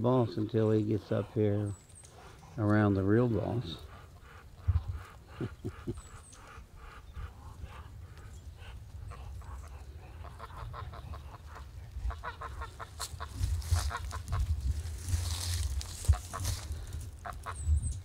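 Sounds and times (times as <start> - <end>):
ducks quacking: 0.0 - 17.7
geese honking: 0.2 - 17.7.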